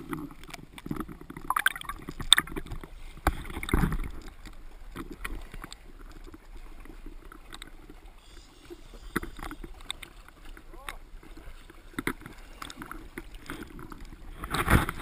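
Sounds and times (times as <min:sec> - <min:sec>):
water splashing against camera housing: 0:00.0 - 0:06.4, 0:09.1 - 0:15.0.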